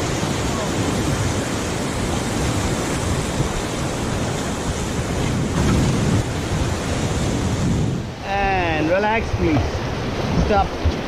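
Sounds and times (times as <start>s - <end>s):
whitewater rushing and splashing: 0.0s - 11.0s
wind buffeting microphone: 0.0s - 11.0s.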